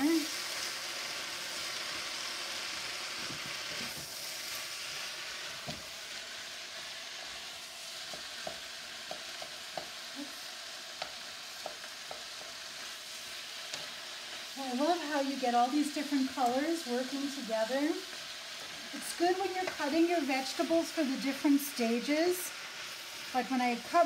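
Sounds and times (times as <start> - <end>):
rice sizzling in a wok: 0.0 - 24.0.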